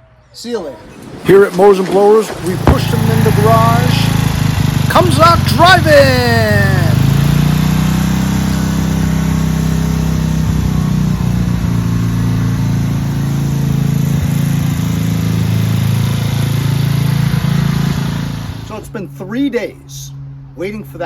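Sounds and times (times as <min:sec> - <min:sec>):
lawn tractor engine running: 0:00.6 - 0:19.3.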